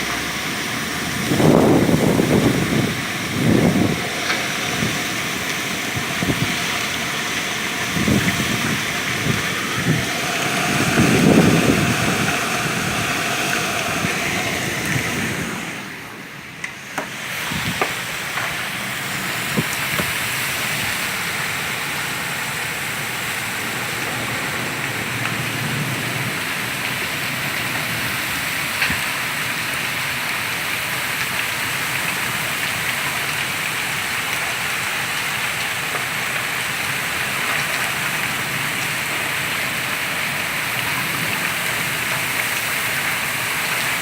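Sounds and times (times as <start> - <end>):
storm water rushing: 0.0 - 44.0
wind: 0.0 - 44.0.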